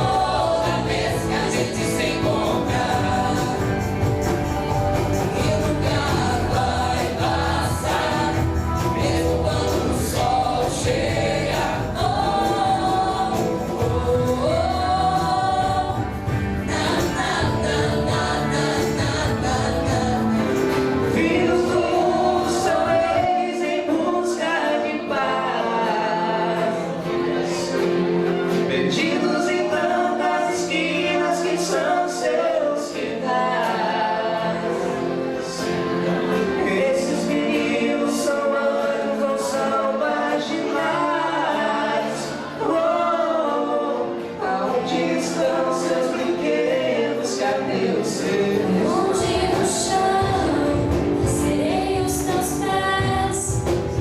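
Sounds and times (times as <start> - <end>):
choir singing: 0.0 - 54.0
instrumental accompaniment: 0.0 - 54.0.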